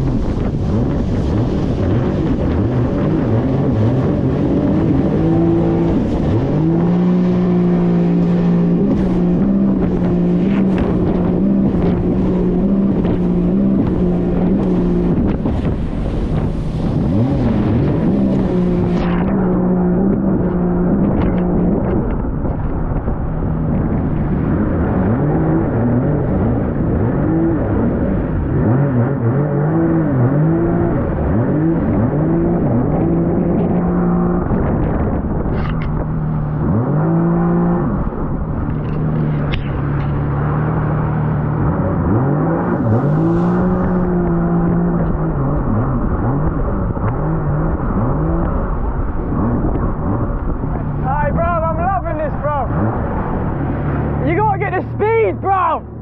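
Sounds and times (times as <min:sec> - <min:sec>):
dense rushing noise: 0:00.0 - 0:28.4, 0:29.8 - 0:56.0
jet ski engine running: 0:00.0 - 0:56.0.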